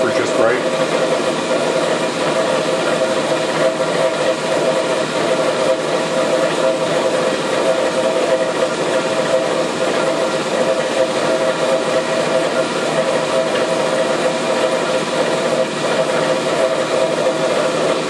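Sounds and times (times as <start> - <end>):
steady machine whine: 0.0 - 18.0.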